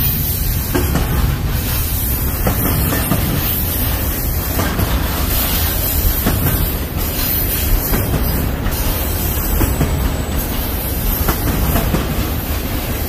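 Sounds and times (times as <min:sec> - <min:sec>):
steel wheels rolling on rail: 0:00.0 - 0:13.0
wheels clicking over rail joints: 0:00.0 - 0:13.0.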